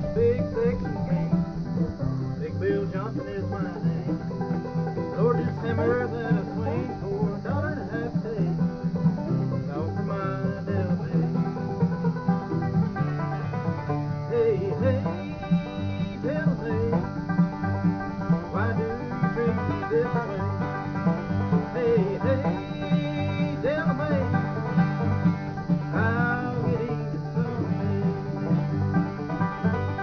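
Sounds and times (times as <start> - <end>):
acoustic guitar: 0.0 - 30.0
banjo: 0.0 - 30.0
mandolin: 0.0 - 30.0.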